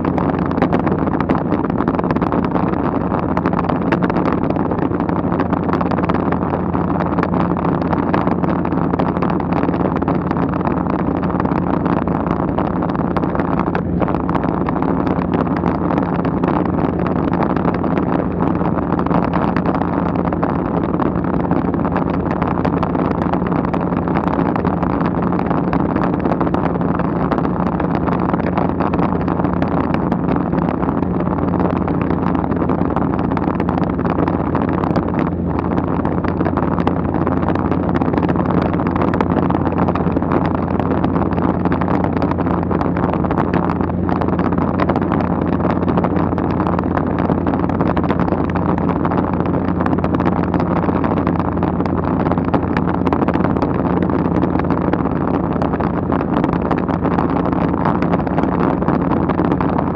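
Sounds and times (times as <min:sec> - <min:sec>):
light aircraft engine drone: 0:00.0 - 0:59.9
rushing wind noise: 0:00.0 - 0:59.9.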